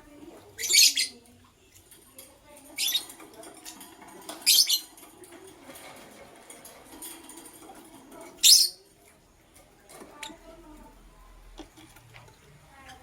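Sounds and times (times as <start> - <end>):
faint bird chatter: 0.1 - 13.0.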